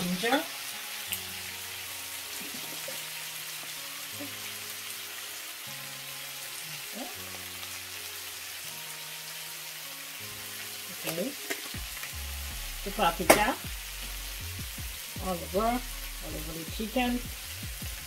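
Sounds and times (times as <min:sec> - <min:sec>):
chicken sizzling in a pot: 0:00.0 - 0:18.0
soft background music: 0:00.0 - 0:18.0.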